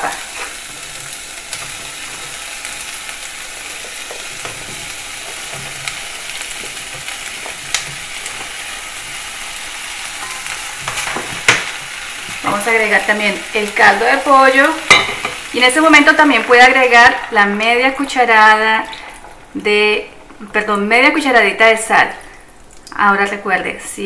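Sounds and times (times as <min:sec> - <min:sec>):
vegetables sizzling in oil: 0:00.0 - 0:23.8.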